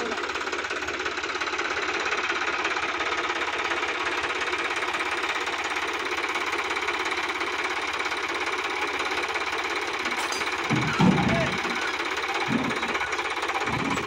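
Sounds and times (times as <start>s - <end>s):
tractor diesel engine clattering: 0.0s - 14.0s.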